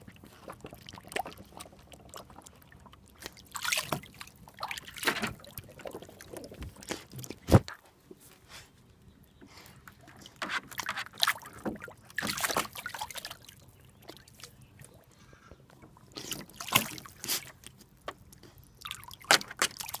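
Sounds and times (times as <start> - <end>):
puppy splashing water: 0.0 - 7.8, 9.7 - 15.1, 15.9 - 20.0.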